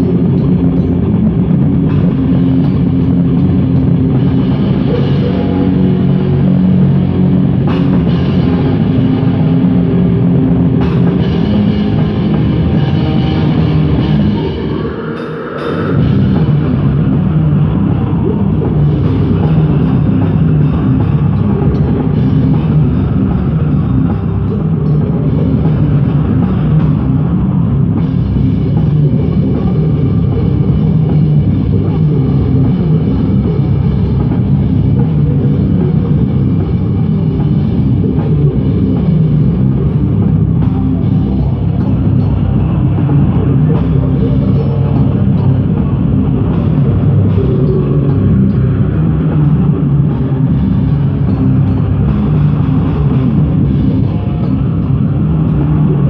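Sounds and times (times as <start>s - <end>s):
bass drum and cymbals: 0.0s - 56.0s
heavy metal band music: 0.0s - 56.0s.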